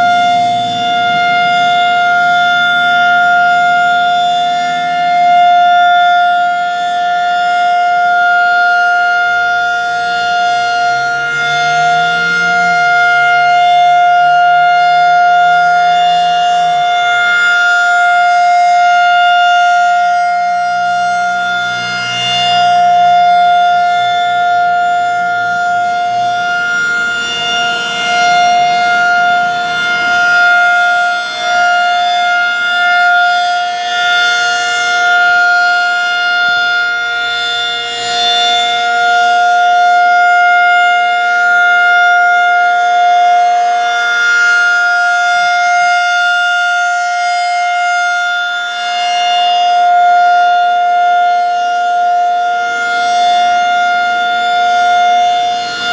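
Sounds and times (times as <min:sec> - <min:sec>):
rotating tornado siren: 0:00.0 - 0:55.9.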